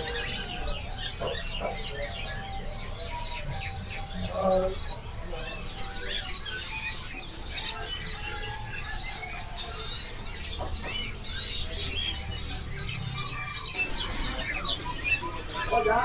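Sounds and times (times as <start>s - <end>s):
cage birds chirping: 0.0s - 16.0s.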